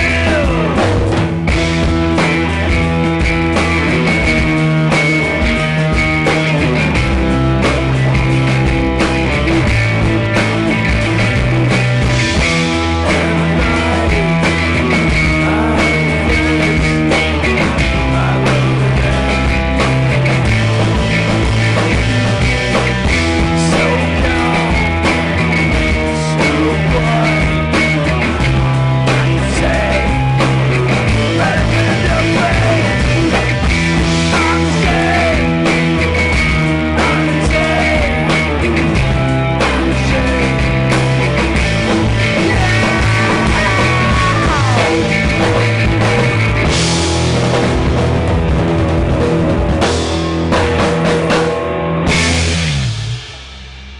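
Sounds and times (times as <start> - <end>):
bass line: 0.0 - 53.9
drums keeping a beat: 0.0 - 53.9
electric guitar: 0.0 - 53.9.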